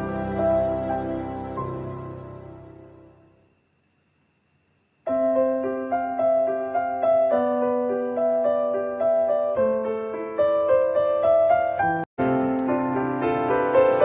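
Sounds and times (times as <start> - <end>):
piano music: 0.0 - 3.3, 5.1 - 14.0.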